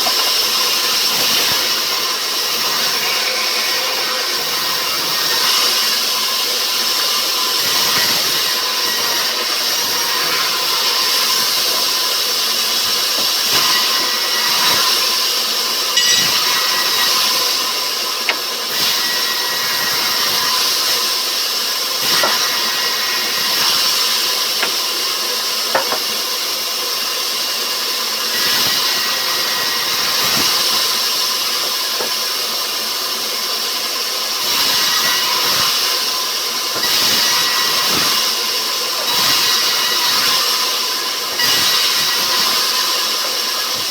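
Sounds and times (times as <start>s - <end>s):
sawmill machinery hissing: 0.0s - 43.9s.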